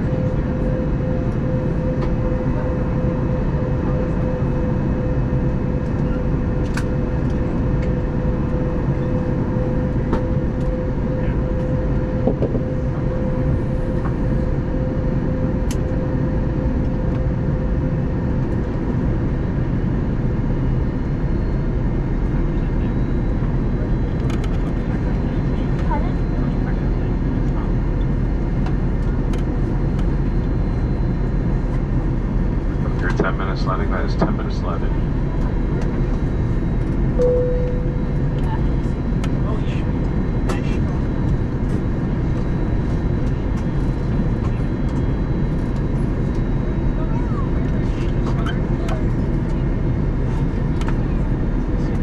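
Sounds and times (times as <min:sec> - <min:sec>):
airliner cabin engine drone: 0:00.0 - 0:52.0
steady hum: 0:00.0 - 0:52.0.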